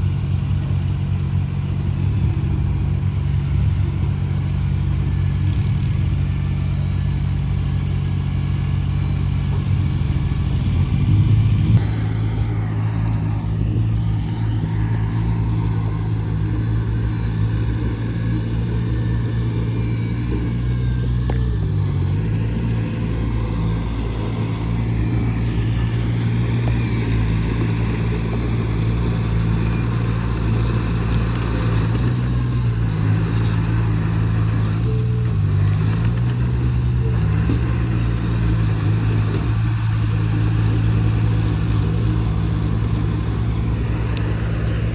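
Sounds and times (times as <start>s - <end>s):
heavy diesel engine under load: 0.0s - 44.9s.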